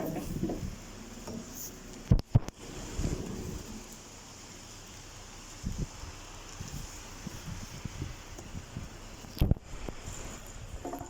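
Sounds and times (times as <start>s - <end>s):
wind buffeting microphone: 0.0s - 1.1s, 2.0s - 4.6s, 5.4s - 11.0s
heavy rain: 0.0s - 11.0s.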